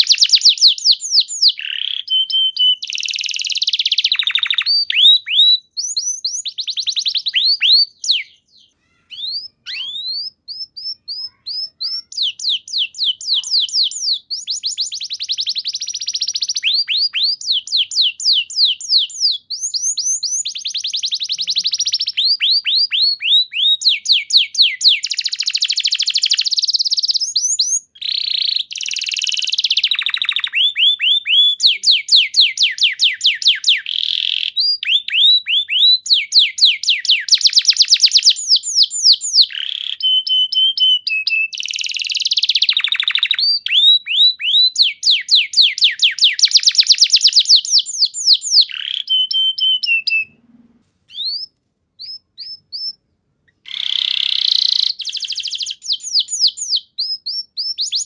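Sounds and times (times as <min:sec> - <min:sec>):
canary singing trills: 0:00.0 - 0:50.5, 0:51.1 - 0:58.0.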